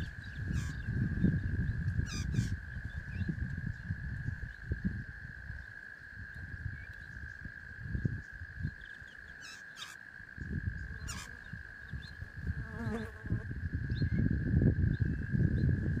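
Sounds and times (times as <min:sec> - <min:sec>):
steady insect drone: 0:00.0 - 0:16.0.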